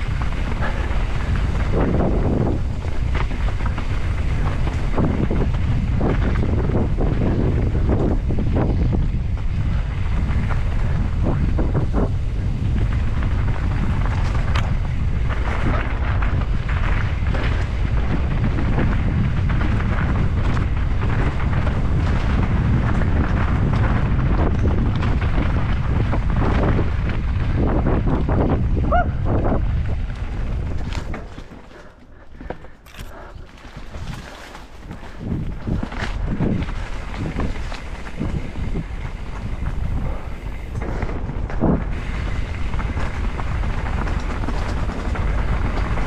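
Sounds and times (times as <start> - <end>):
bike rumbling and rattling over bumps: 0.0 - 46.0
wind buffeting microphone: 0.0 - 46.0.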